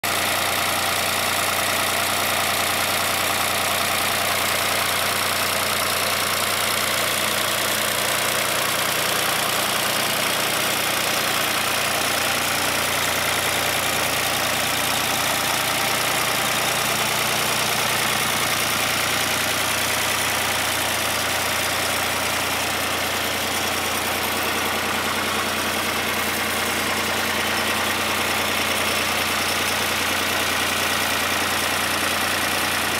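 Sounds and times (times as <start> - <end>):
tractor diesel engine idling: 0.0 - 32.9.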